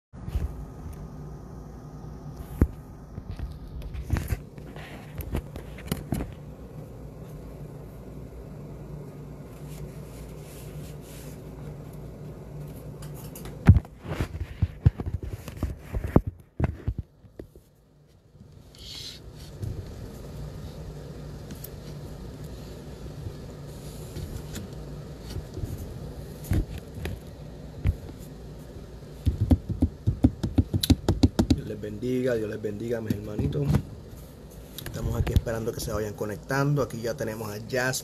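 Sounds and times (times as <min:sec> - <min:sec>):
steady low hum: 0:00.2 - 0:38.0.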